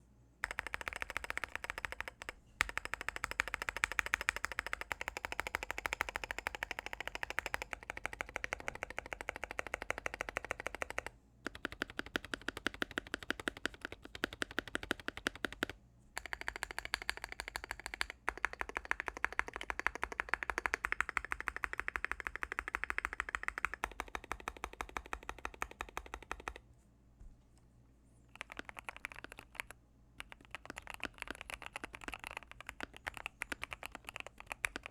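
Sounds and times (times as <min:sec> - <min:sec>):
typing on mechanical keyboard: 0:00.4 - 0:26.6, 0:28.3 - 0:34.9.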